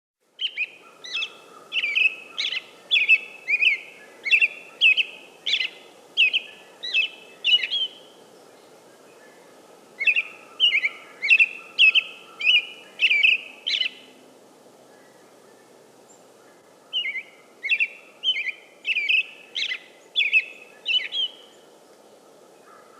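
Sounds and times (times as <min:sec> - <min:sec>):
faint background noise: 0:00.2 - 0:22.9
robin singing: 0:00.4 - 0:09.4, 0:10.0 - 0:14.2, 0:15.0 - 0:21.7.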